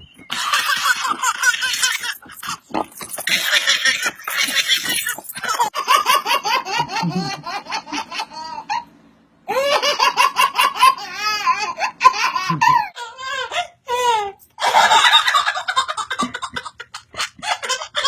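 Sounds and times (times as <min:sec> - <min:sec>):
baby laughing: 0:00.3 - 0:08.9, 0:09.5 - 0:18.0.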